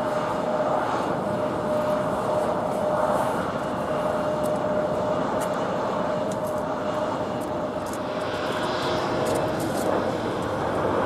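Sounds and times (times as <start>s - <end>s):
jet engines rushing and whining: 0.0s - 11.0s.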